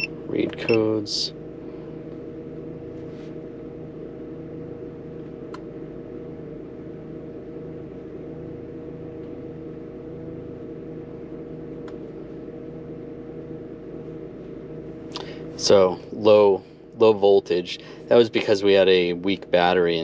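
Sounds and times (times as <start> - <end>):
low pulsing undertone: 0.0 - 20.0
steady mechanical hum: 0.0 - 20.0.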